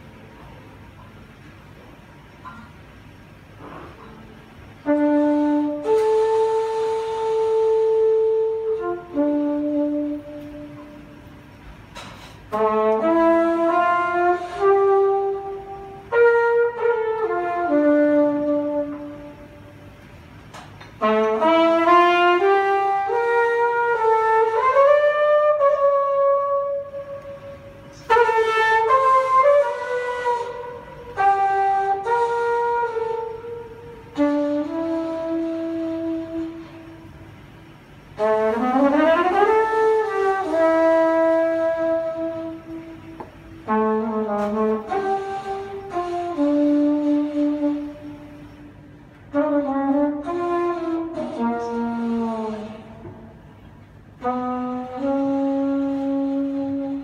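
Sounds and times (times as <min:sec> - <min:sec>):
trumpet playing slow melody: 0:00.0 - 0:57.0.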